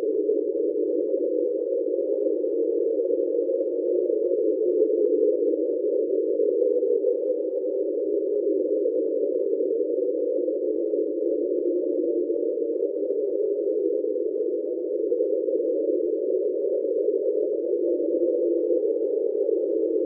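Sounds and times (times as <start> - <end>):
underwater drone of close tones: 0.0 - 20.0.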